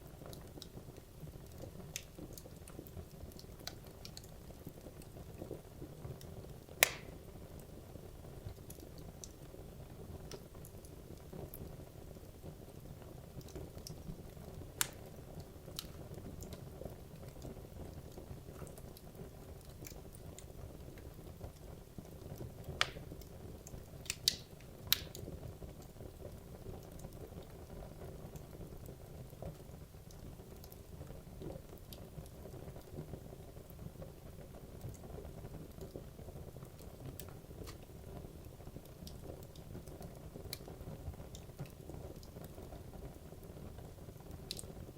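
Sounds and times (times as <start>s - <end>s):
fire rumbling with crackles: 0.0s - 44.9s.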